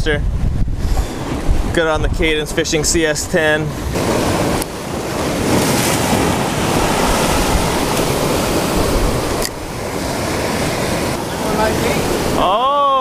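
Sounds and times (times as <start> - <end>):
wind buffeting microphone: 0.0 - 12.6
surf breaking on rocks: 0.9 - 12.5.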